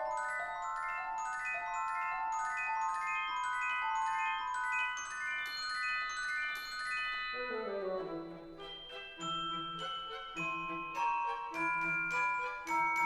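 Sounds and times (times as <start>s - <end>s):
bell-like mallet percussion melody: 0.0s - 13.0s.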